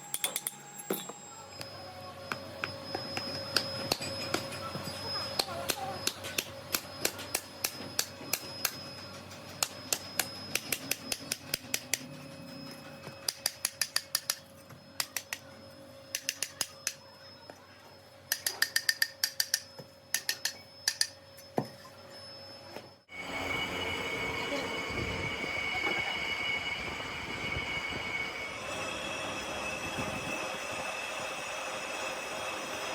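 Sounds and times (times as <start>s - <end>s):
steady machine hum: 0.0s - 32.9s.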